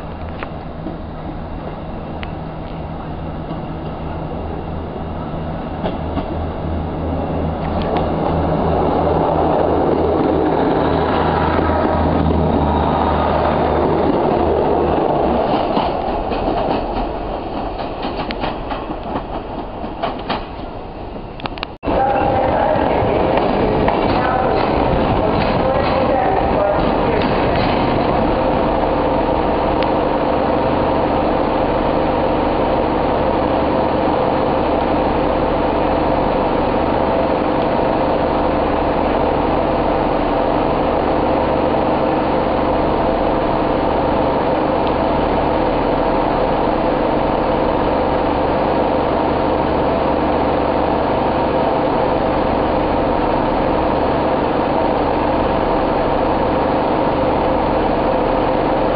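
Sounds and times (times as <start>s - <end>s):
train engine idling hum: 0.0s - 58.9s.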